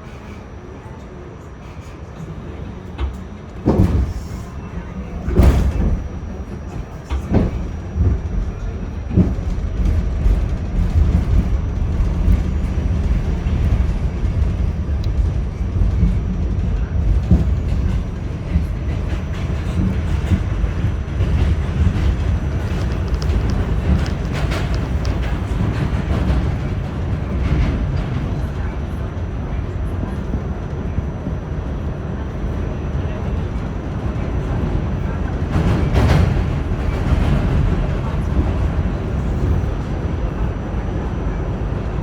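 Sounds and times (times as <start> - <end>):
subway train wheels rumbling: 0.0 - 42.0.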